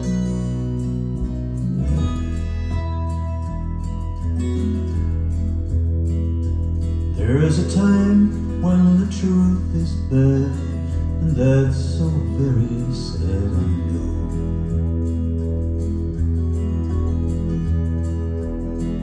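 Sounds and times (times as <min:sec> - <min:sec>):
acoustic guitar: 0:00.0 - 0:19.0
melodic line: 0:00.0 - 0:19.0
steady bass: 0:00.0 - 0:19.0.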